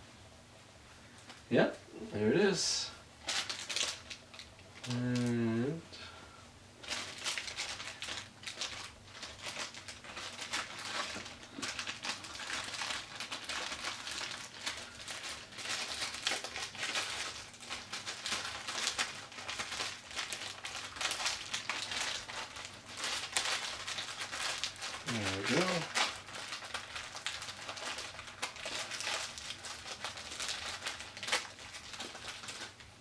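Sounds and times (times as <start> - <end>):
plastic bag crinkling: 3.2 - 5.4, 6.8 - 33.0.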